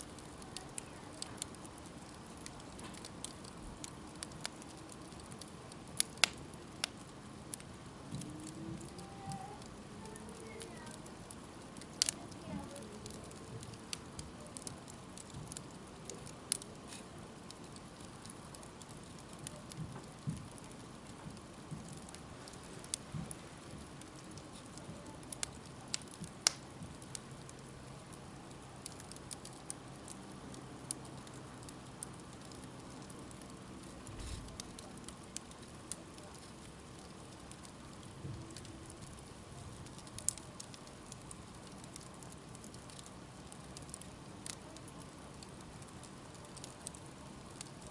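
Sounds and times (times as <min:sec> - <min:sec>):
campfire crackling and popping: 0:00.0 - 0:47.9
soft hiss of burning: 0:00.0 - 0:47.9.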